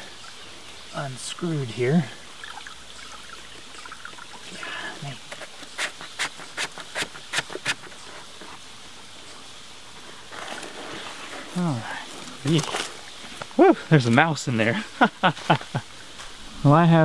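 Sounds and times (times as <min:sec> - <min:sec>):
creek water trickling: 0:00.0 - 0:16.5.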